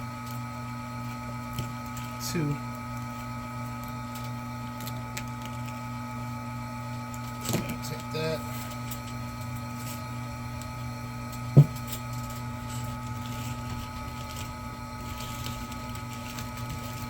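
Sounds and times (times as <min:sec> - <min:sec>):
wire-stripping machine motor humming: 0:00.0 - 0:17.0.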